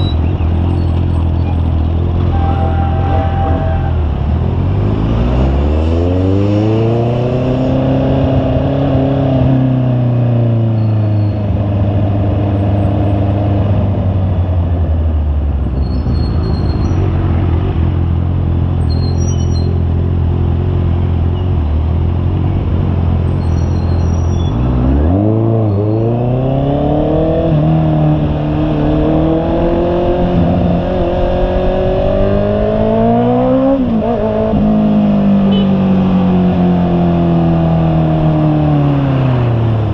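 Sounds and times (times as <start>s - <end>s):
motorcycle engine revving: 0.0s - 10.3s, 15.8s - 39.9s.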